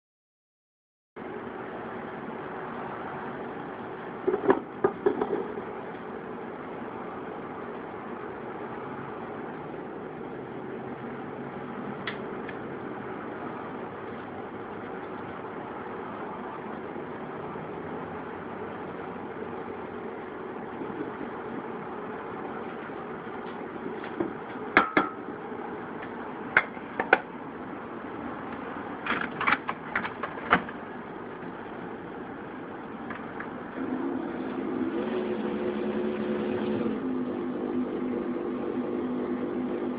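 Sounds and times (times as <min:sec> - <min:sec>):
steady low hum: 0:01.2 - 0:39.9.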